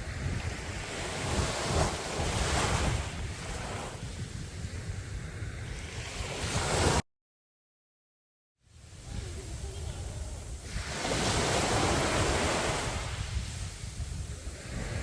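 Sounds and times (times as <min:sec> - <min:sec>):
sea waves breaking on a beach: 0:00.0 - 0:07.0, 0:08.7 - 0:15.0
wind rumbling on microphone: 0:00.0 - 0:07.0, 0:08.7 - 0:15.0.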